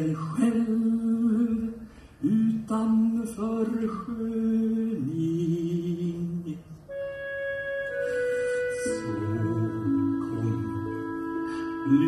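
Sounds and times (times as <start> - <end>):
man singing a show tune: 0.0 - 6.8, 8.6 - 12.0.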